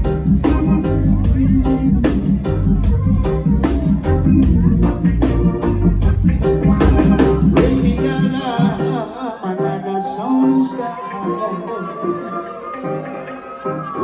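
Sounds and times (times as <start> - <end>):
reggae band playing: 0.0 - 14.0.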